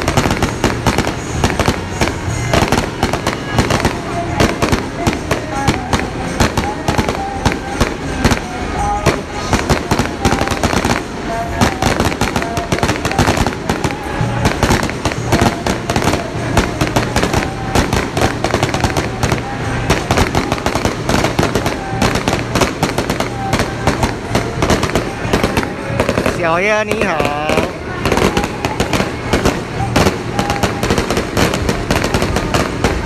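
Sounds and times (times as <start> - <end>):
firecrackers and fireworks banging: 0.0 - 33.0.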